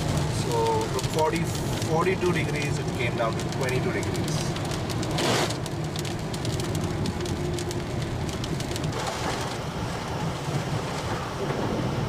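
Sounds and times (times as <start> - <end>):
rain pattering on a car: 0.0 - 12.0
road and engine rumble: 0.0 - 12.0.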